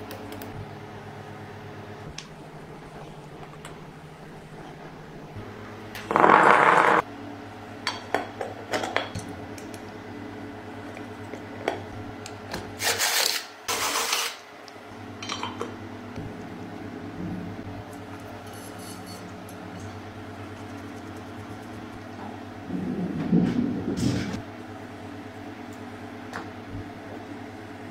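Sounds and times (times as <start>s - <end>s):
steady low hum: 0.0s - 12.8s, 14.5s - 27.9s.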